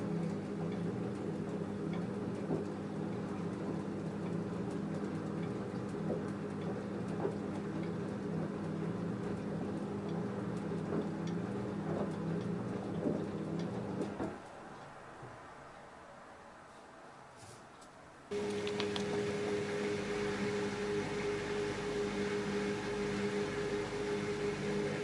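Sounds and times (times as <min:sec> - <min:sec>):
washing machine motor hum: 0:00.0 - 0:14.6, 0:18.3 - 0:25.0.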